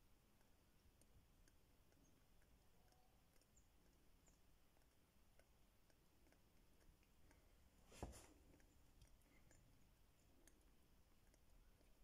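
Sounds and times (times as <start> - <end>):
faint clicks: 0.0 - 12.0.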